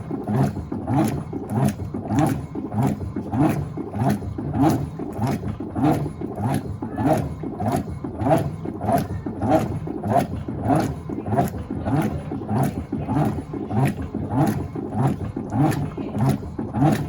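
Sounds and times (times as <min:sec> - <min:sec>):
washing machine agitator swishing: 0:00.0 - 0:17.0.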